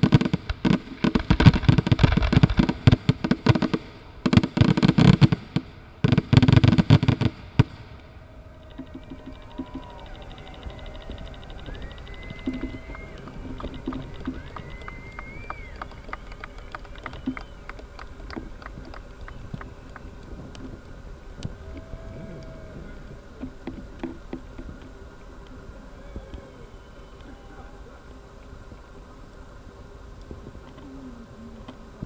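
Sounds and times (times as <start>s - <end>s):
whistling firework shells: 0.0s - 24.9s, 25.5s - 28.1s
firework crackling pops: 0.0s - 32.0s.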